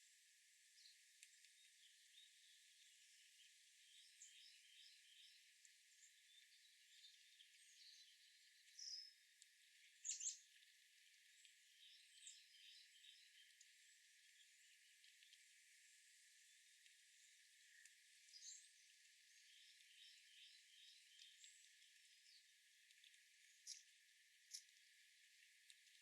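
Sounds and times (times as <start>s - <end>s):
small birds chirping: 0.8s - 25.0s.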